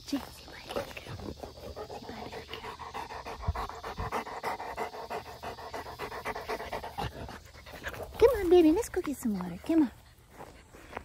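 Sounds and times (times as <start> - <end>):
dog panting: 0.6 - 11.0.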